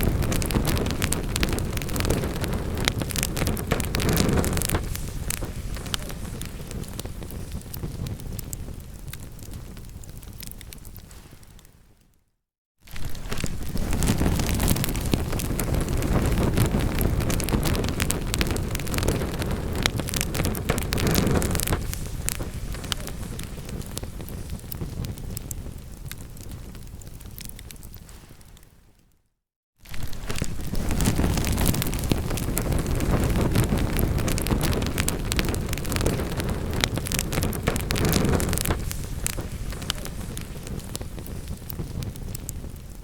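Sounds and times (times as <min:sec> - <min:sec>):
low rumble of flames: 0:00.0 - 0:12.0, 0:12.9 - 0:28.8, 0:29.8 - 0:43.0
wood fire crackling and popping: 0:00.0 - 0:12.1, 0:12.9 - 0:28.8, 0:29.8 - 0:43.0.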